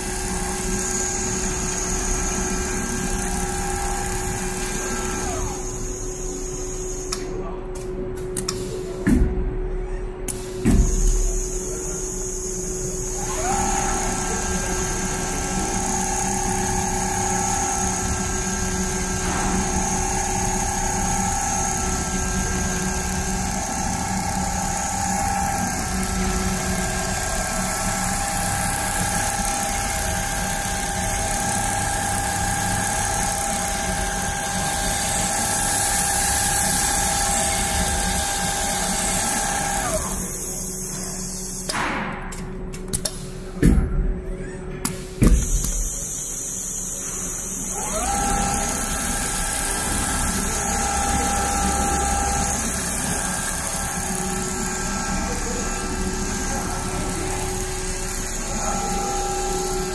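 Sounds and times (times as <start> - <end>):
sewing machine motor whine: 0.0 - 7.1, 10.8 - 41.2, 45.4 - 59.9.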